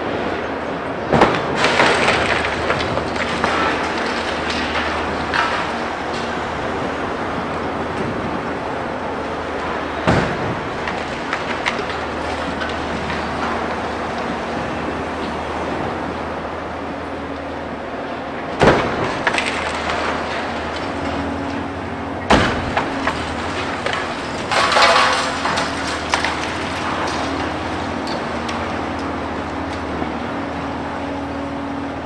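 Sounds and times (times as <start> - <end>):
diesel machine droning: 0.0 - 32.0
concrete cracking: 1.1 - 8.6, 9.2 - 15.7, 18.6 - 30.6
falling rubble: 1.1 - 17.1, 18.5 - 31.4.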